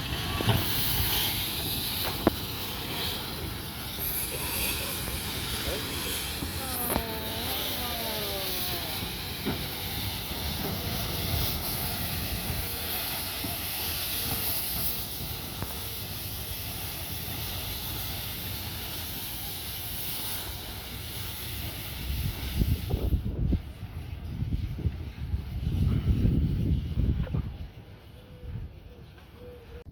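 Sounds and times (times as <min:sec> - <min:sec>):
steam locomotive hissing steam: 0:00.0 - 0:29.8.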